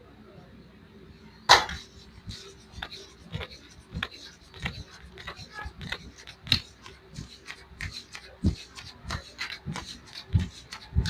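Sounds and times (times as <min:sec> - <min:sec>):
hands slapping and rubbing skin: 0:01.5 - 0:11.0.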